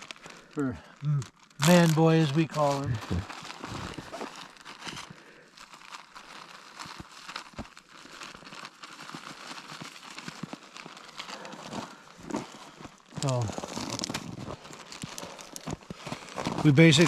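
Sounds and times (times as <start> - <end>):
rustling and crunching: 0.0 - 17.0.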